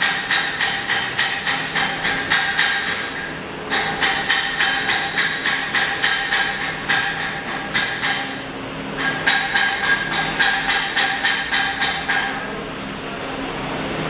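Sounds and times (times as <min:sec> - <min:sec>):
hammer striking steel: 0:00.0 - 0:12.5.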